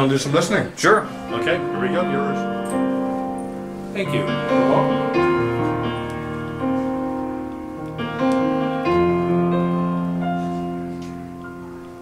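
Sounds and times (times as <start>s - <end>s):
slow solo piano chords: 0.6s - 12.0s.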